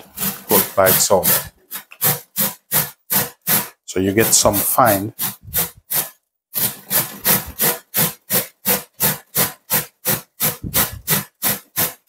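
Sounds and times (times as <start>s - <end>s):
cabbage grated on metal grater: 0.0s - 12.0s.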